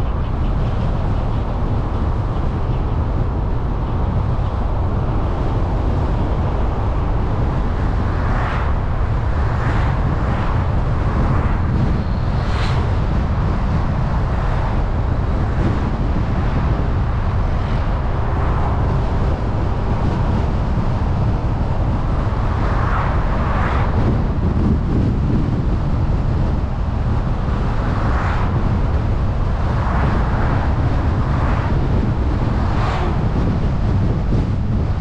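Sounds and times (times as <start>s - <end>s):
road and wind noise rumble: 0.0s - 35.0s.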